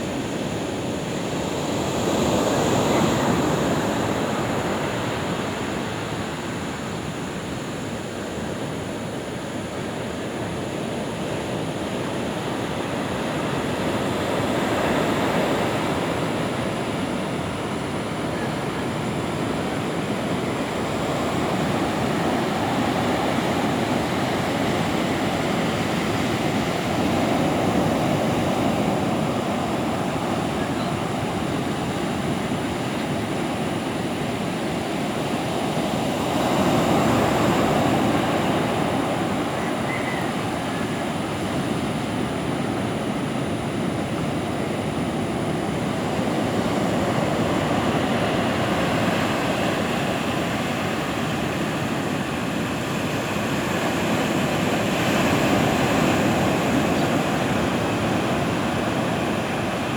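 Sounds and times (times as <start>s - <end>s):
waves washing on shore: 10.9s - 59.9s.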